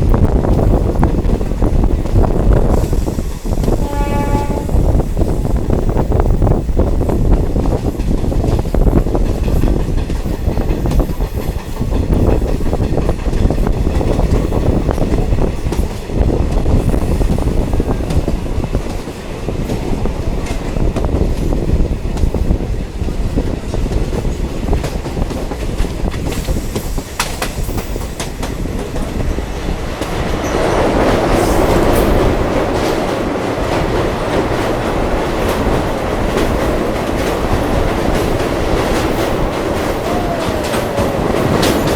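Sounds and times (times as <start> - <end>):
train rumble: 0.0 - 41.9
wheels clacking over rails: 4.9 - 41.9.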